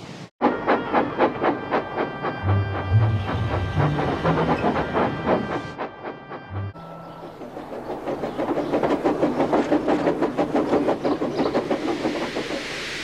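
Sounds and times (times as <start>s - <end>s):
steam train clattering on rails: 0.4s - 13.0s.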